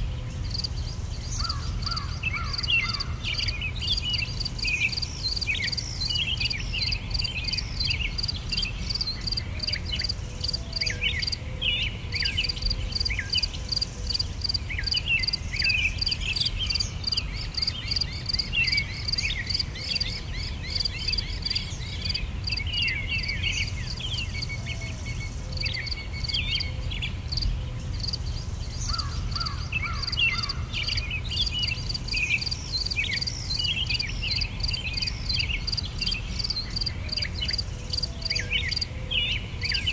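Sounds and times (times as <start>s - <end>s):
crickets chirping: 0.0s - 11.4s, 12.1s - 38.9s
small birds chirping: 0.0s - 39.9s.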